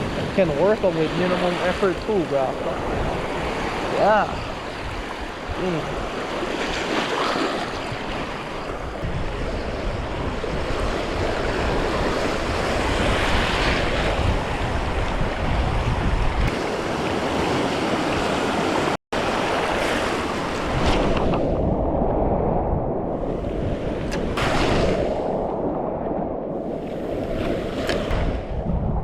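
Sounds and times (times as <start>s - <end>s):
ocean surf washing ashore: 0.0s - 29.0s
wind buffeting microphone: 0.0s - 29.0s.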